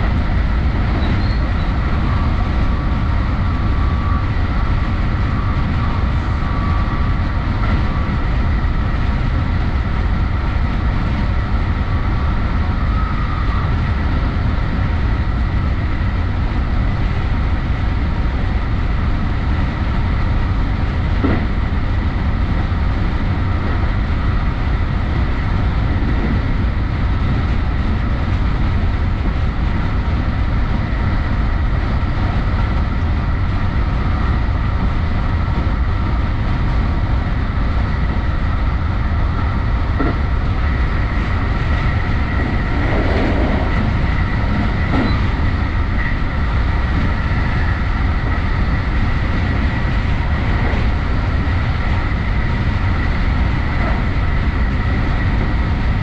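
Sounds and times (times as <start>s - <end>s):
train clatter: 0.0s - 56.0s
train wheels rolling on rails: 0.0s - 56.0s.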